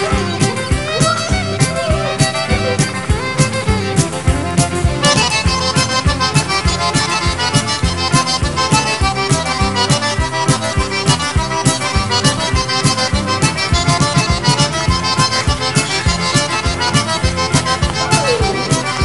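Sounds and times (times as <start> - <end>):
accordion music with quick beat: 0.0 - 19.0.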